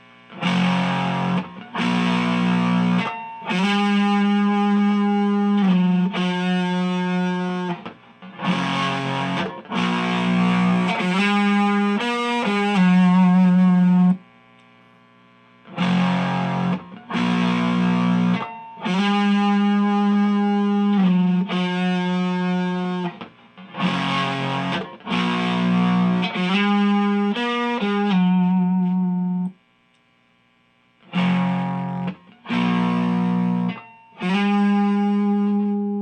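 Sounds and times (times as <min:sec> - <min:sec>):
overdriven electric guitar chords: 0:00.0 - 0:29.7, 0:31.0 - 0:36.0
faint amp hiss: 0:00.0 - 0:36.0.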